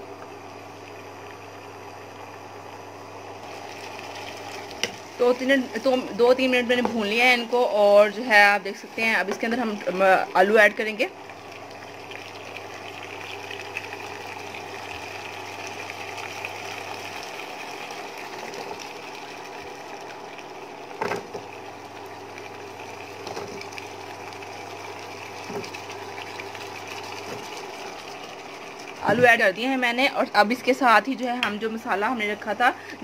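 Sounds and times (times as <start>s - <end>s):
electric hob hum and hiss: 0.0s - 33.0s.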